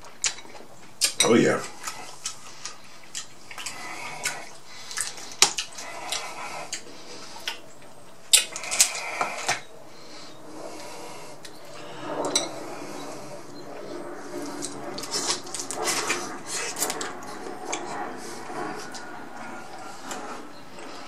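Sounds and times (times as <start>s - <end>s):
wet chewing: 0.0s - 21.0s.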